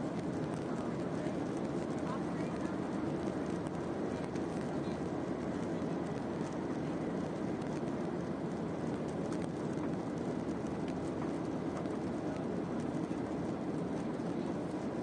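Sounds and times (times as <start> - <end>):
airplane cabin noise: 0.0 - 15.0.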